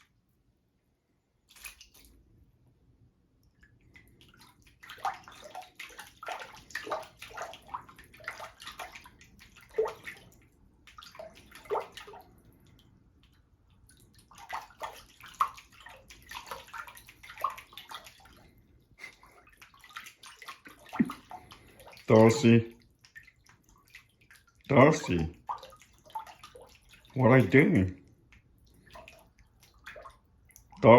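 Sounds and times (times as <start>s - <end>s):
water splashing and sloshing: 0.0s - 30.9s.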